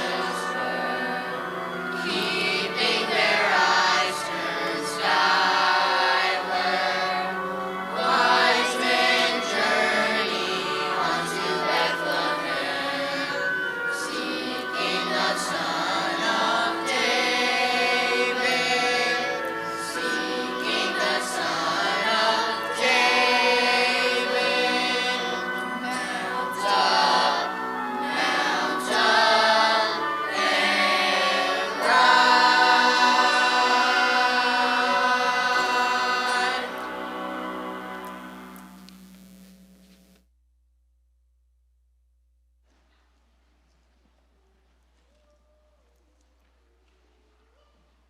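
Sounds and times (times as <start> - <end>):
choir singing with accompaniment: 0.0 - 38.6.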